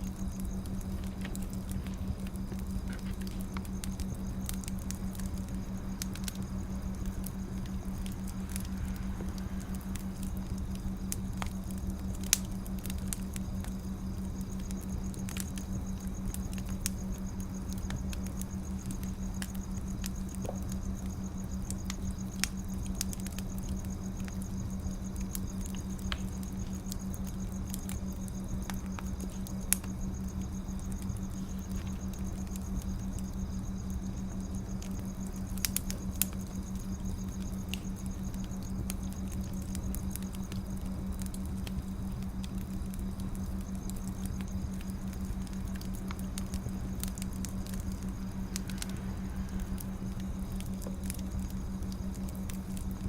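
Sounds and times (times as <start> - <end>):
low hum: 0.0 - 21.5, 24.7 - 53.0
wood fire crackling: 0.0 - 53.0.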